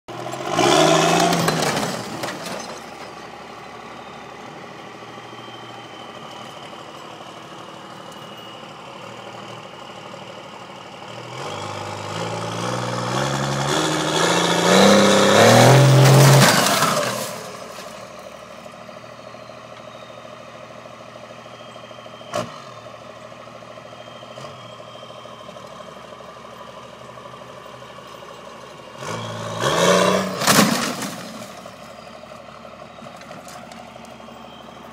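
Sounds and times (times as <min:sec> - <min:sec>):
diesel engine idling and revving: 0:00.1 - 0:34.9.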